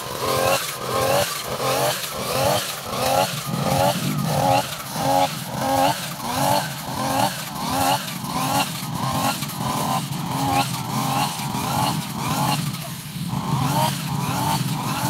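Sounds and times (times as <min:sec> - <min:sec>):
brush cutter engine cutting grass: 0:00.0 - 0:15.0.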